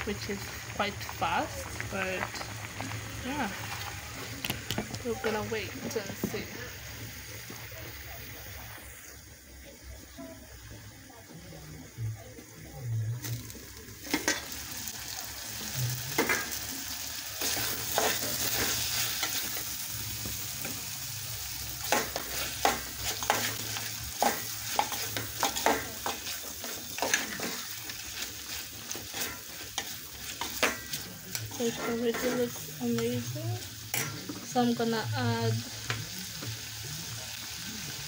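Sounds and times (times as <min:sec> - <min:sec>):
stew sizzling in a metal pot: 0:00.0 - 0:38.0.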